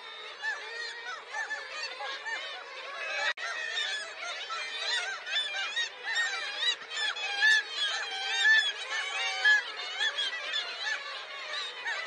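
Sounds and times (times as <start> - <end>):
kittiwakes calling: 0.0 - 12.0.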